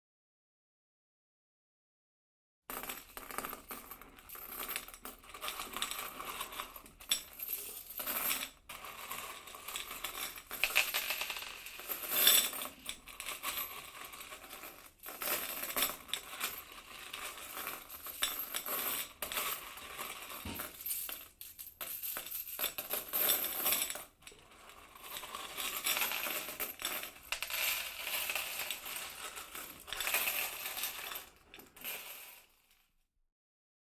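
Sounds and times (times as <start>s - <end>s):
coins jingling and clinking: 2.7s - 24.2s, 24.8s - 32.6s.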